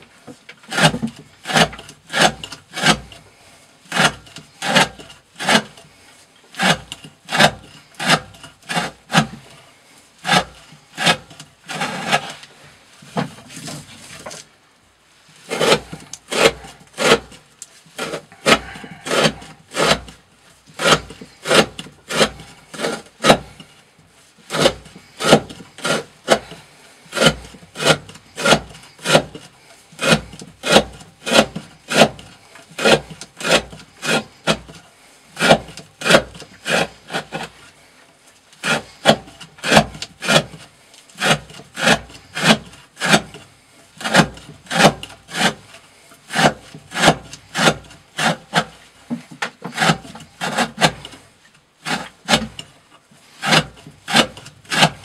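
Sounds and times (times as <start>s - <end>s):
knife shaving wood: 0.2s - 14.5s, 15.2s - 55.0s.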